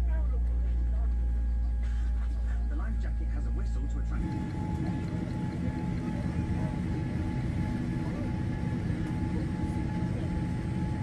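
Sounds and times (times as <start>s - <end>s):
faint steady whine: 0.0s - 11.0s
jet airliner cabin rumble: 0.0s - 11.0s.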